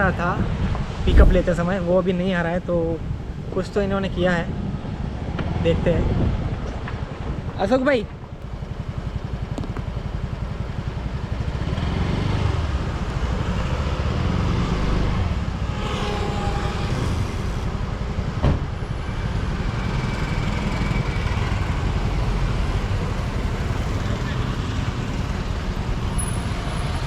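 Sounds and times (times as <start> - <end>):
road and wind noise: 0.0 - 27.0.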